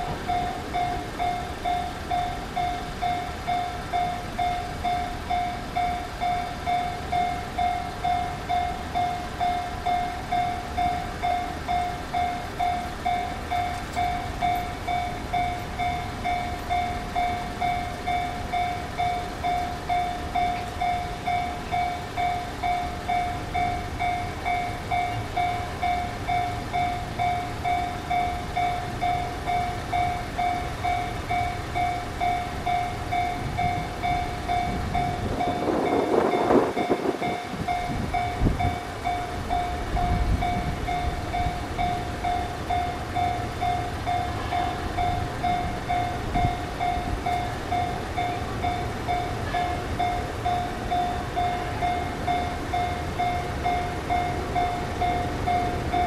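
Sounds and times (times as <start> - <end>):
railroad crossing warning bell: 0.0 - 56.0.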